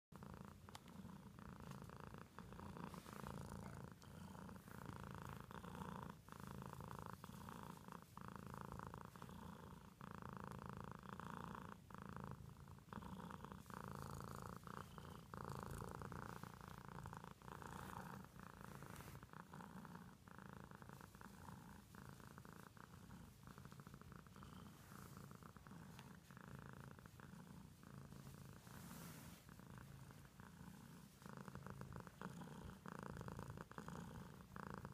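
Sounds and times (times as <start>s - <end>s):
cat purring softly: 0.0s - 34.9s.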